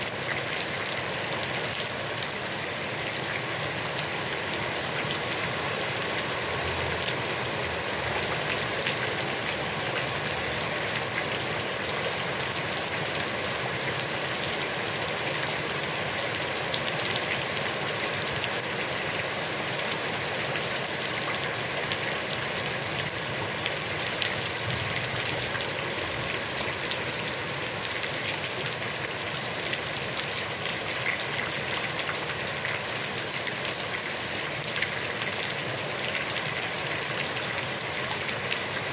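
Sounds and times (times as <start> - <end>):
heavy rain on pond: 0.0 - 38.9.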